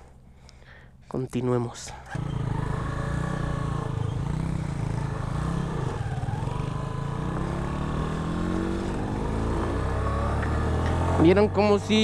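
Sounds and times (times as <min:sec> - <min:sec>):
motorcycle engine accelerating: 0:02.1 - 0:12.0.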